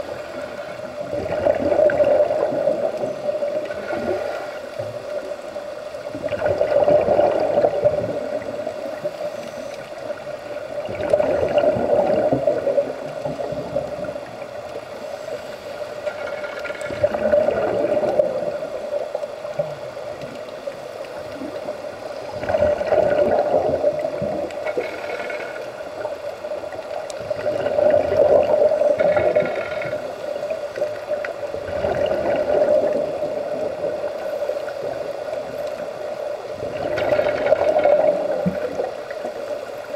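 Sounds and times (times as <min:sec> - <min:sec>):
scuba regulator bubbles gurgling: 0:00.0 - 0:39.9.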